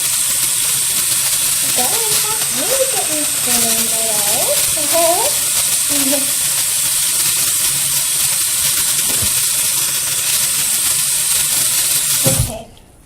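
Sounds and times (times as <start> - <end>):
tap water running into sink: 0.0 - 12.7.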